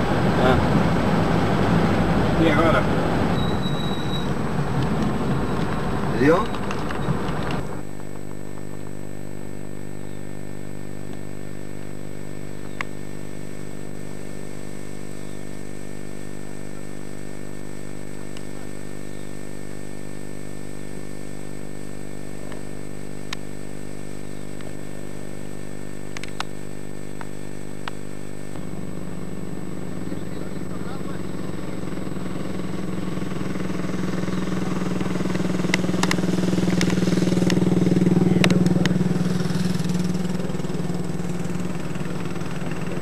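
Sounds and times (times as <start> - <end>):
steady machine hum: 0.0 - 43.0.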